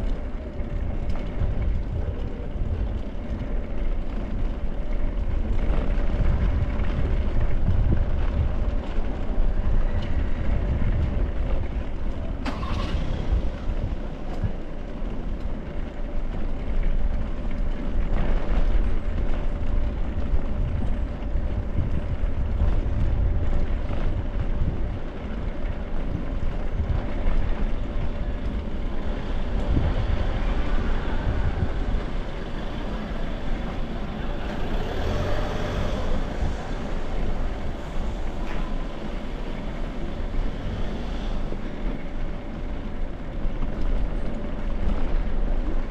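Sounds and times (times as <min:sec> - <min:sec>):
bicycle rolling over brick street: 0:00.0 - 0:45.9
wind on microphone: 0:00.0 - 0:45.9.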